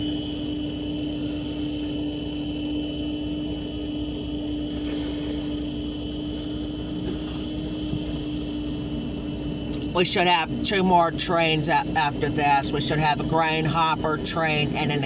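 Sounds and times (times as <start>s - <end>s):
vehicle hum: 0.0s - 15.0s.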